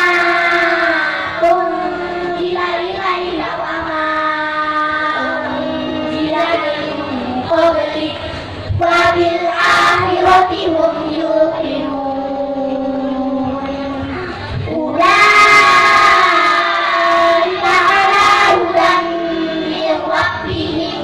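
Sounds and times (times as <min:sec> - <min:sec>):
children singing through pa system: 0:00.0 - 0:21.0.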